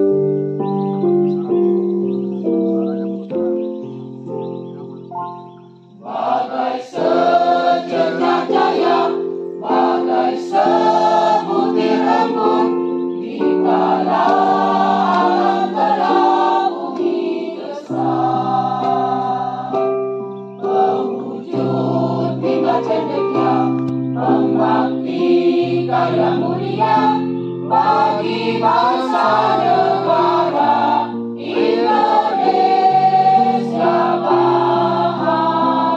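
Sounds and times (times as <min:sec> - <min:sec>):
held keyboard chords: 0:00.0 - 0:35.9
mixed choir singing in unison: 0:05.9 - 0:35.9.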